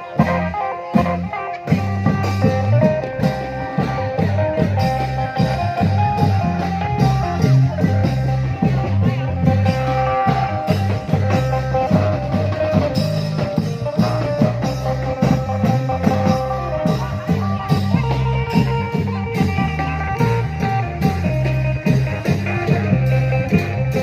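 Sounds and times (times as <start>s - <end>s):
wavering lead melody: 0.0s - 24.0s
long drums beating: 0.2s - 24.0s.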